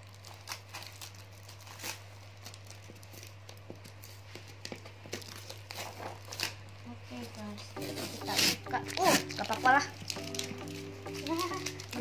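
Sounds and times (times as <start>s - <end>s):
tape and cardboard rustling: 0.0s - 12.0s.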